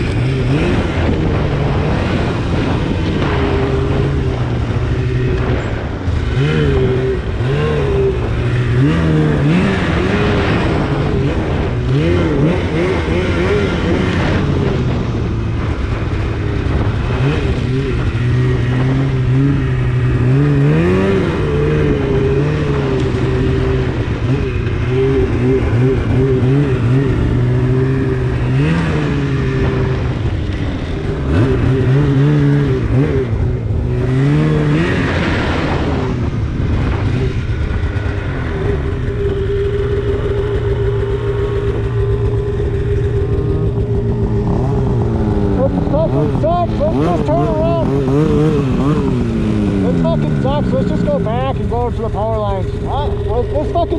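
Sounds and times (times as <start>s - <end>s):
snowmobile engine with throttle blips: 0.0s - 53.9s.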